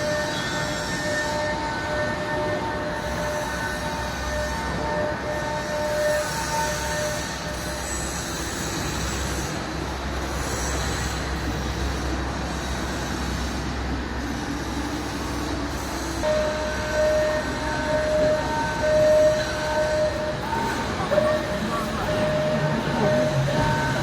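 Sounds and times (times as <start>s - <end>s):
industrial machinery hum: 0.0s - 24.0s.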